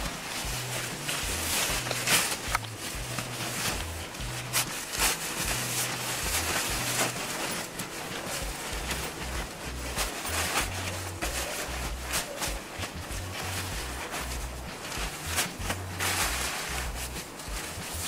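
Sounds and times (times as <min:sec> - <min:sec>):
tent fabric rustling: 0:00.0 - 0:18.0.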